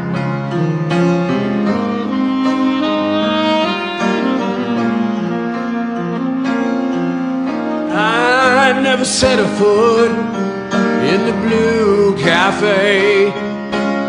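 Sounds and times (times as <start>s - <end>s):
saxophone slow melody: 0.0s - 9.0s, 9.8s - 13.8s
keyboard accompaniment: 0.0s - 14.0s.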